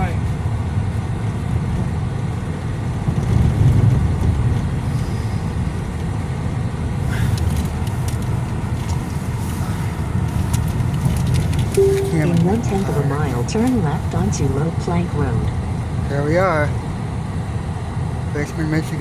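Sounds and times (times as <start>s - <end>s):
car engine rumble in cabin: 0.0s - 16.1s.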